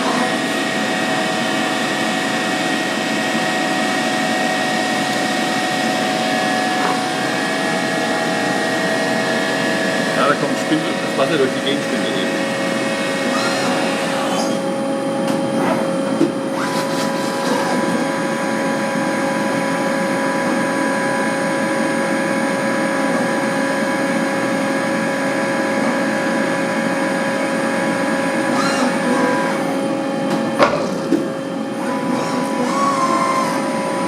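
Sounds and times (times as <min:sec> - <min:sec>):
higher machine whine: 0:00.0 - 0:34.0
lathe mechanical hum and whine: 0:00.0 - 0:34.0.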